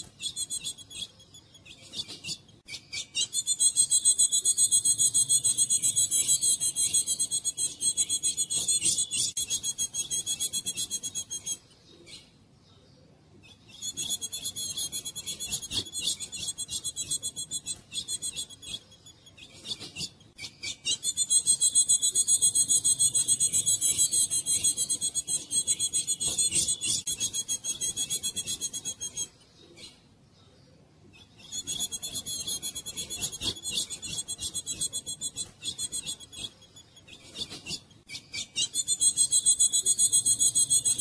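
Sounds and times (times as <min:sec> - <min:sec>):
bird rapid high-pitched notes: 0:00.0 - 0:11.6, 0:13.7 - 0:29.3, 0:31.4 - 0:41.0.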